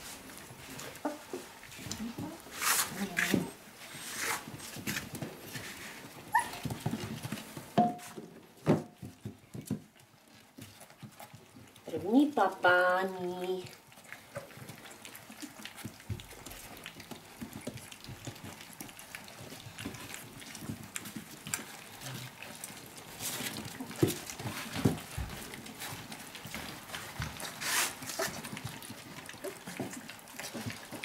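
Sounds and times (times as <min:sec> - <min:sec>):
puppies lapping and slurping: 0:00.0 - 0:31.0.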